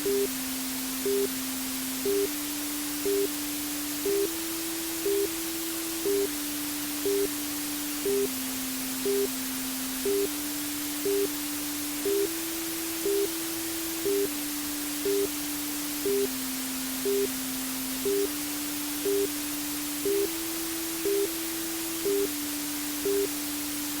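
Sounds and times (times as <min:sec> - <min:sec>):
white noise hiss: 0:00.0 - 0:24.0.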